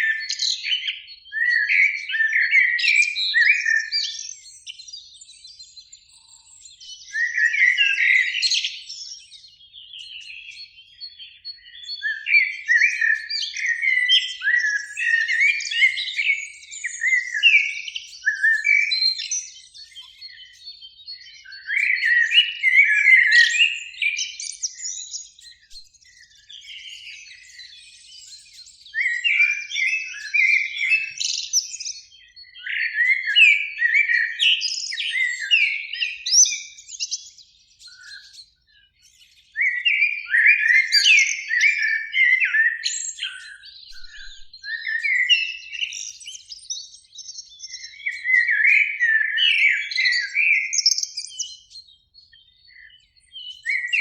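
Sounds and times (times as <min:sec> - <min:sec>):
blackbirds singing: 0:00.0 - 0:54.0.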